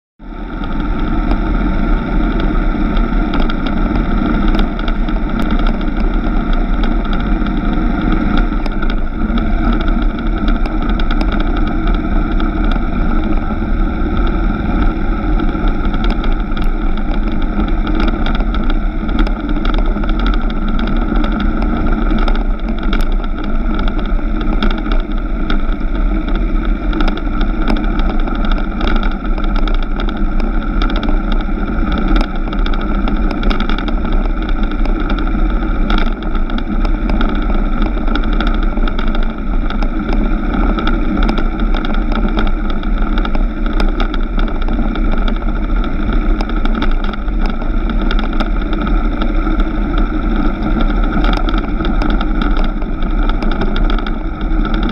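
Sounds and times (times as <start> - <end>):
motorcycle engine cruising: 0.2 - 54.9
tyre rumble on dirt road: 0.2 - 54.9
wind on microphone: 0.2 - 54.9
small ticks: 2.3 - 54.9.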